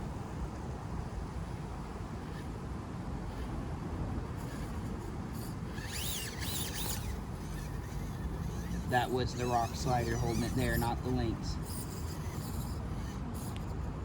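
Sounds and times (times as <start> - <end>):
toy car motor grinding: 2.1 - 2.6, 3.2 - 14.0.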